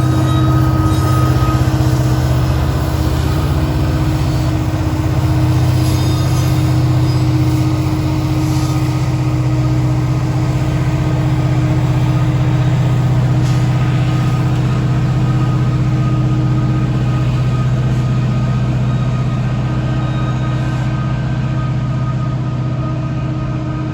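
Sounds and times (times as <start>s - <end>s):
heavy diesel engine droning: 0.0s - 23.9s.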